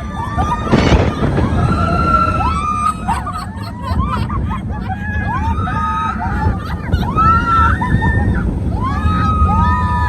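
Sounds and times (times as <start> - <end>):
low rumble of the ride: 0.0 - 10.0
roller coaster riders screaming: 0.0 - 10.0.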